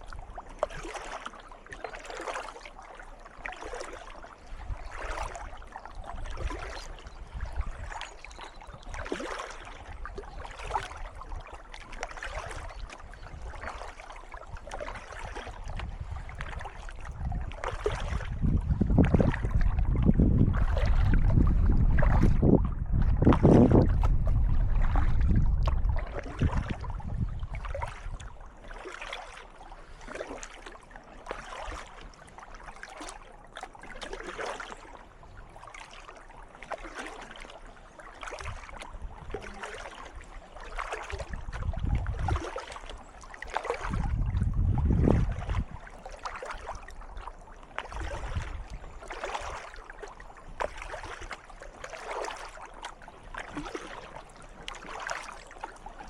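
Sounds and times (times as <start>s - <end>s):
water dripping off paddle: 0.0s - 18.3s, 27.6s - 35.0s, 35.6s - 44.2s, 45.4s - 56.0s
kayak paddle splashing: 0.0s - 56.0s.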